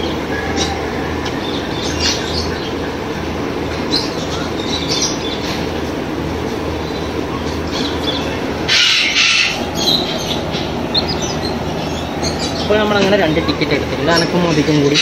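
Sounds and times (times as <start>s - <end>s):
air cooler fan humming: 0.0s - 15.0s
high bird calls: 0.0s - 15.0s.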